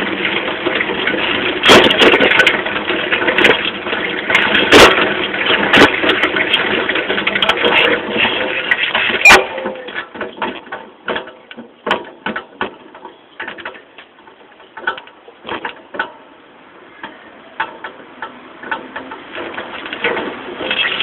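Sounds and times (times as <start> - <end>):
bicycle rear clicks and knocks: 0.9 - 16.4, 17.0 - 21.0.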